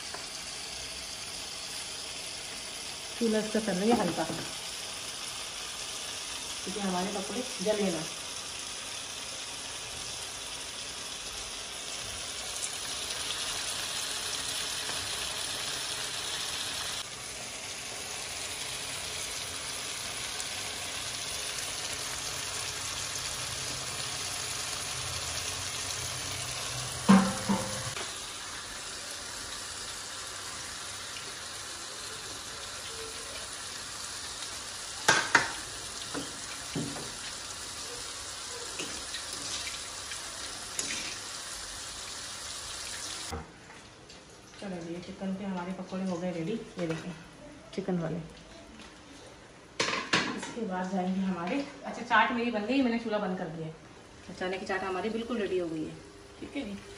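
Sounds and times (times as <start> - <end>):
oil sizzling and bubbling: 0.0 - 56.9.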